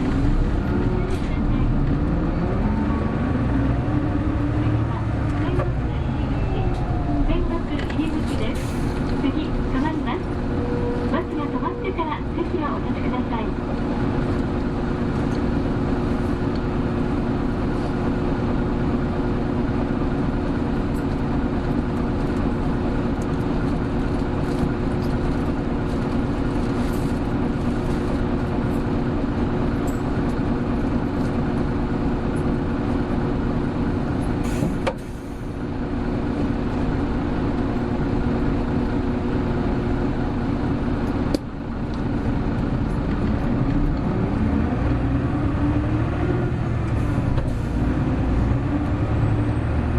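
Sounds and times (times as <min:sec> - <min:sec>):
bus diesel engine running: 0:00.0 - 0:49.9
road noise: 0:00.0 - 0:49.9.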